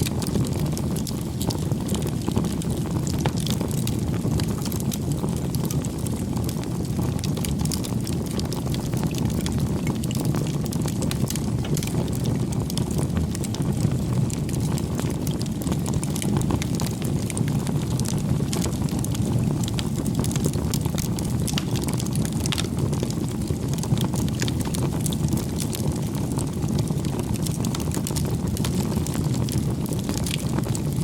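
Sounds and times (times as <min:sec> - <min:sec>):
fire crackles and pops: 0:00.0 - 0:31.0
low rumble of flames: 0:00.0 - 0:31.0.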